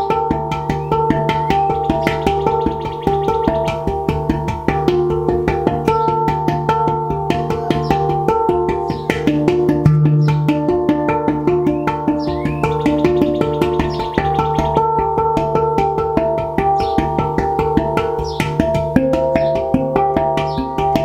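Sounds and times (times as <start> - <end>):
deep low handpan note: 0.0 - 21.0
handpan notes ringing: 0.0 - 21.0.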